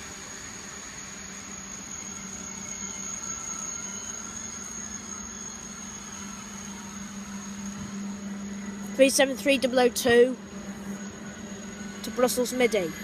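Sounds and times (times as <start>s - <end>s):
train low hum with high whine: 0.0s - 13.0s.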